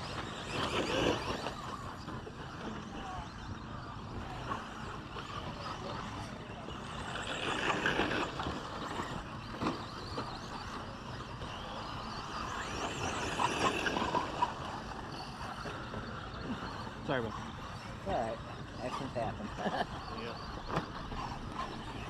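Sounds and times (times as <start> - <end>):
rc truck motors whining: 0.0 - 22.0.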